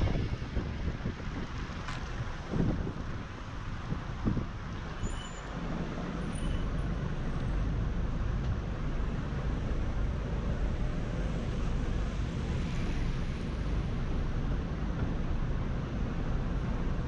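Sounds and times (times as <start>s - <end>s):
city road traffic: 0.0s - 17.0s
wind rumble on microphone: 0.0s - 17.0s.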